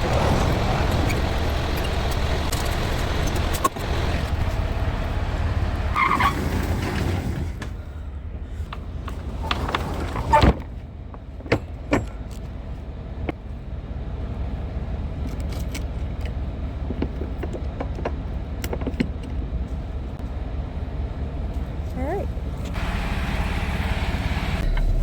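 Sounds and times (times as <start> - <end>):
diesel engine idling: 0.0 - 6.1, 10.7 - 25.0.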